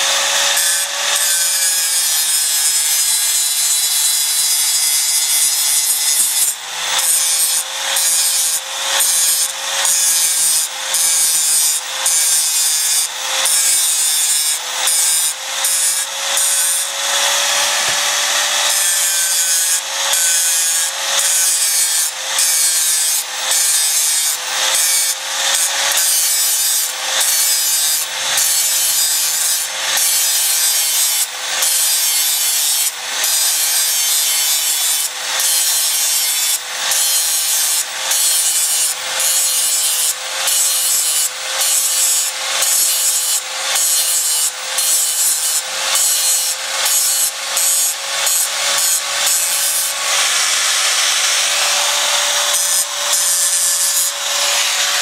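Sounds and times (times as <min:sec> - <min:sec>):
angle grinder grinding steel: 0:00.0 - 0:55.0.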